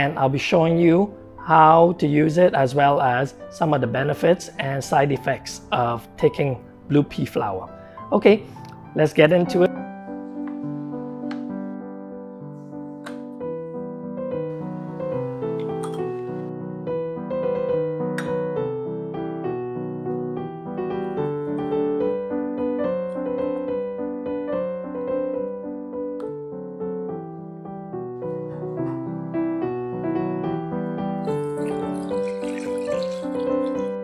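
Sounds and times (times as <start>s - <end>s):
solo piano music: 0.0s - 34.0s.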